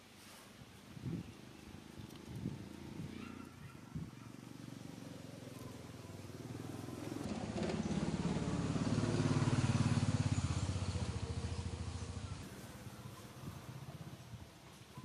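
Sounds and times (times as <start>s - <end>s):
vehicle engine passing by: 1.1s - 14.4s.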